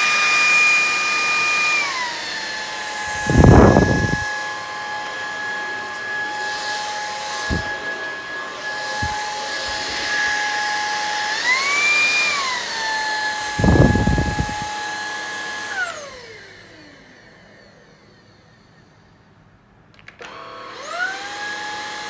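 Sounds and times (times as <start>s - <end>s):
stick vacuum motor whine: 0.0s - 19.1s, 20.2s - 22.0s.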